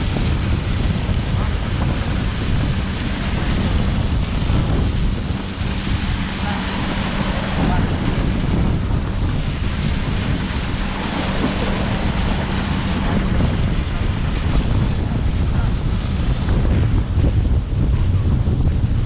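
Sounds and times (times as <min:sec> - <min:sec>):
boat motor drone: 0:00.0 - 0:19.0
water rushing past hull: 0:00.0 - 0:19.0
wind on microphone: 0:00.0 - 0:19.0.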